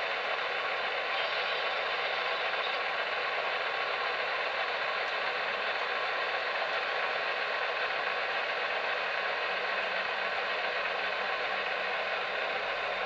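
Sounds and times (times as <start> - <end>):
model locomotives running on track: 0.0 - 13.0.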